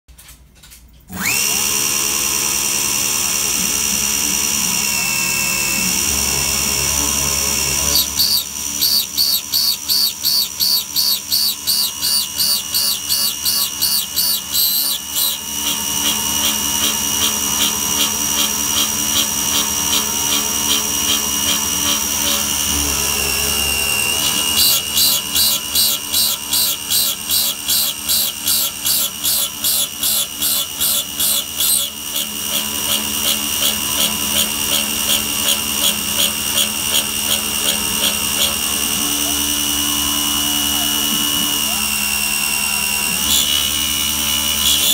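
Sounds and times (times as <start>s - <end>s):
end mill cutting: 1.1s - 44.9s
router spindle whining: 1.1s - 44.9s.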